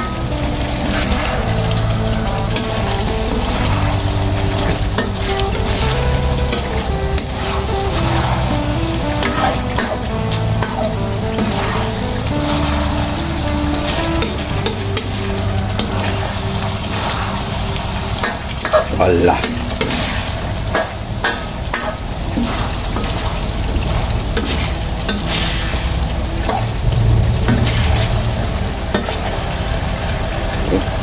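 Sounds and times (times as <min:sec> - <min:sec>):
gravy sizzling and bubbling: 0:00.0 - 0:31.0.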